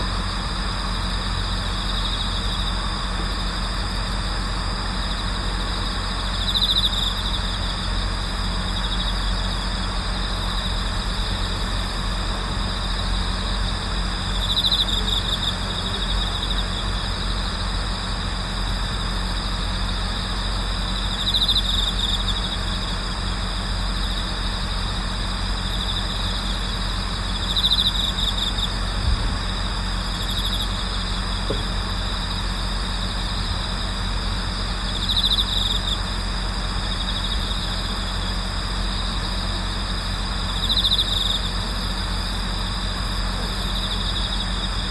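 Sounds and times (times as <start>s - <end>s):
crickets trilling: 0.0s - 44.9s
louder cricket trilling phrase: 0.0s - 44.9s
steady low hum: 0.0s - 44.9s.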